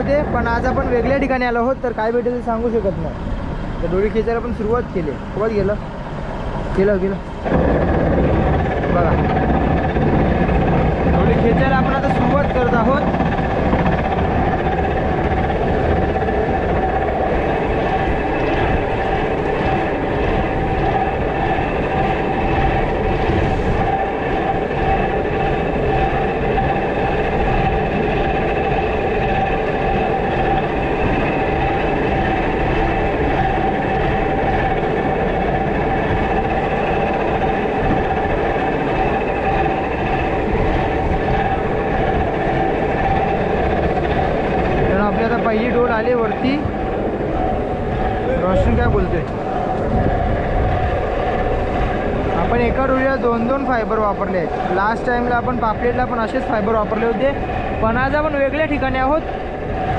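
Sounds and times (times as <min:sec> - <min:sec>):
boat engine rumble: 0:00.0 - 0:59.9
deck winch whining: 0:00.0 - 0:59.9.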